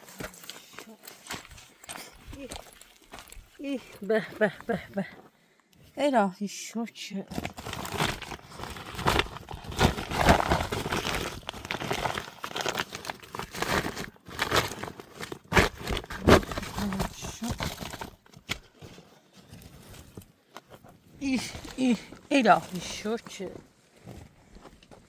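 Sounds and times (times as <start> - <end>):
rustling and crinkling: 0.0 - 6.0, 7.3 - 25.0.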